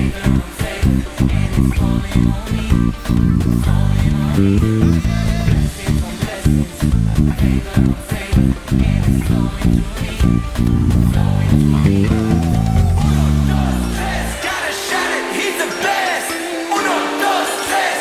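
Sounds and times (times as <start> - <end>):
electric bass guitar: 0.0 - 14.6
band playing: 0.0 - 17.8.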